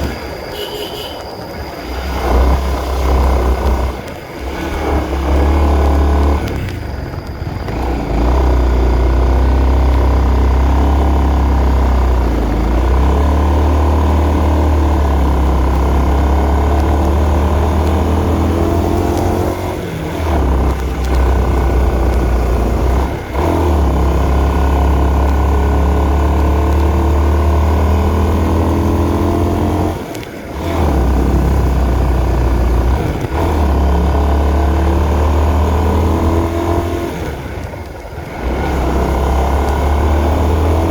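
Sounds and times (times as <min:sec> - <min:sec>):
motorcycle engine revving: 0:01.8 - 0:40.9.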